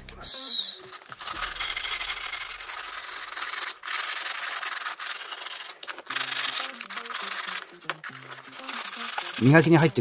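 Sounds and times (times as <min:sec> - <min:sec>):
sandpaper rubbing on antler: 0:00.6 - 0:10.0.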